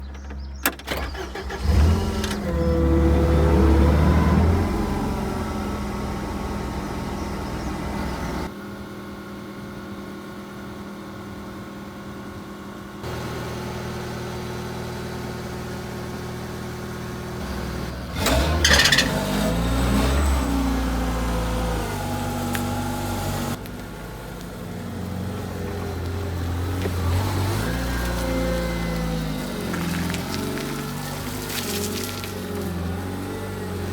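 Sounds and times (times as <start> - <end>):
forklift engine running: 0.0 - 33.9.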